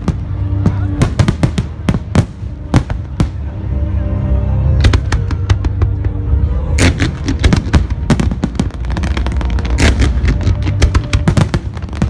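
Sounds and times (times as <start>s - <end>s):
firework bursts and crackles: 0.0s - 3.5s, 4.8s - 12.0s.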